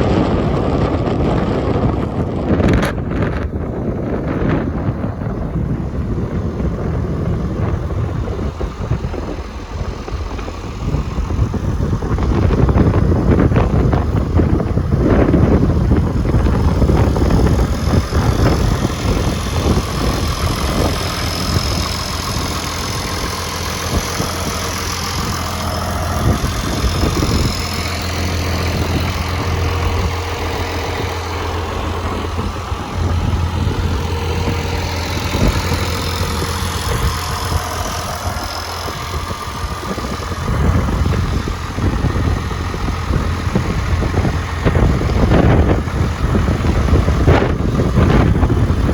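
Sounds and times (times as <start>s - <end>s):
tractor engine idling: 0.0s - 48.9s.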